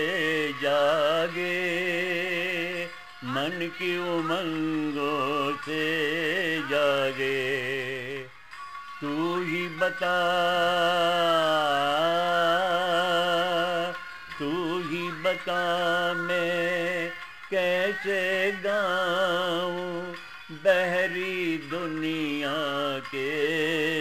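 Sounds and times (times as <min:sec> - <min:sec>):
wordless vocal melody: 0:00.0 - 0:24.0.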